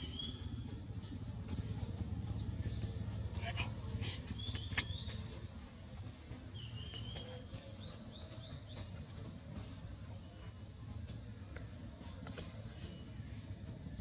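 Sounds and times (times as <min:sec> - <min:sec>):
birds chirping: 0:00.0 - 0:14.0
low background rumble: 0:00.0 - 0:14.0.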